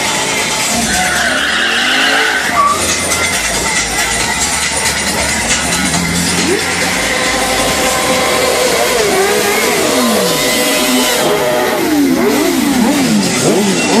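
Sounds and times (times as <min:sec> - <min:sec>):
racing motorcycle engines revving: 0:00.0 - 0:14.0.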